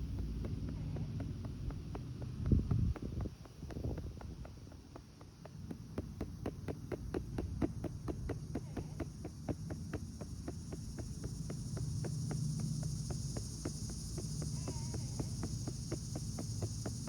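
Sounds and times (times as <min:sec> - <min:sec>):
hand patting a doll's back: 0:00.0 - 0:17.0.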